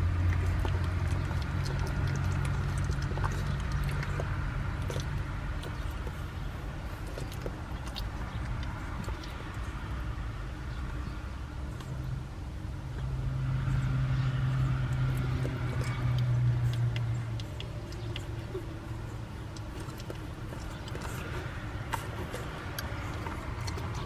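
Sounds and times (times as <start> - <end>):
puppies suckling clicks: 0.0 - 12.2, 12.9 - 24.0
low motor hum: 0.0 - 24.0.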